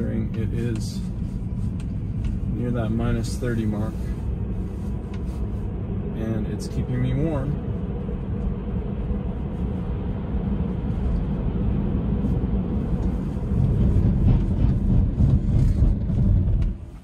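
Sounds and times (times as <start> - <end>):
tyre and road rumble: 0.0 - 17.0.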